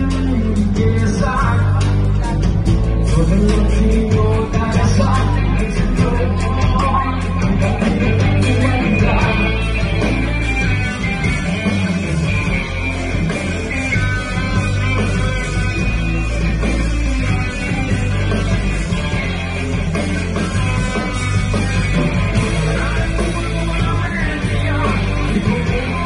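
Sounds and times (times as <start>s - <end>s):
bass guitar: 0.0s - 26.0s
drums: 0.0s - 26.0s
electric guitars: 0.0s - 26.0s.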